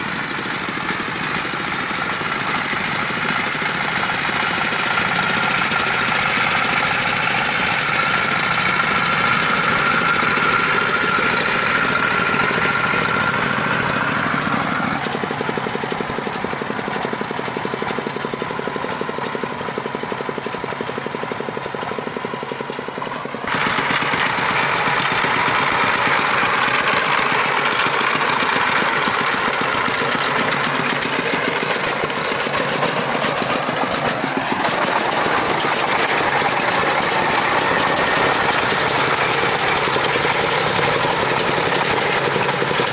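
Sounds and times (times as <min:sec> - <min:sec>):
truck engine chugging: 0:00.0 - 0:42.9.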